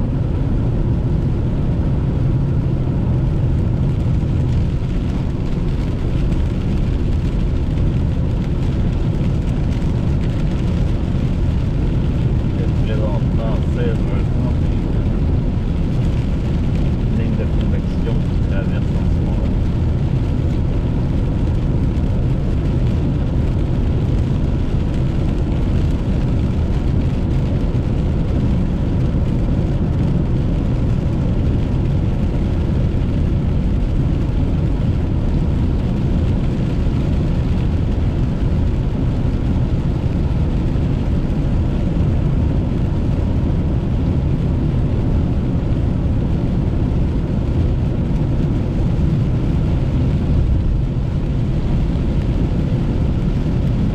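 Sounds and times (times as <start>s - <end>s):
car engine cruising: 0.0s - 53.9s
tyres on wet pavement: 3.5s - 53.9s.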